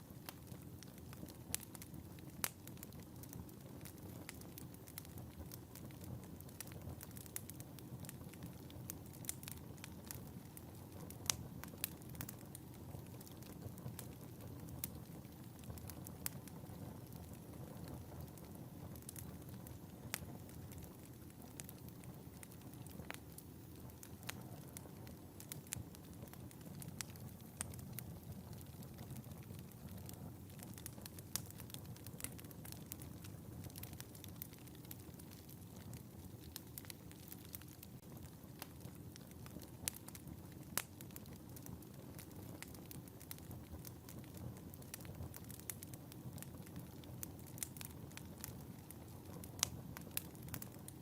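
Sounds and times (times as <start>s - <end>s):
fire crackling and popping: 0.0s - 51.0s
fire rumbling: 0.0s - 51.0s.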